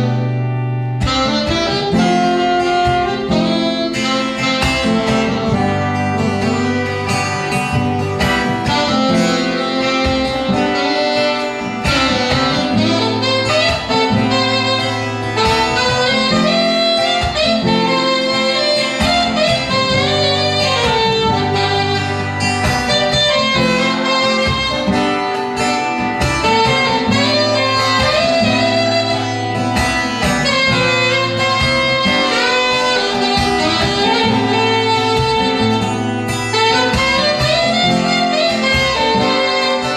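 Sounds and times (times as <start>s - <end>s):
acoustic guitar accompaniment: 0.0s - 39.9s
saxophone melody: 0.0s - 39.9s.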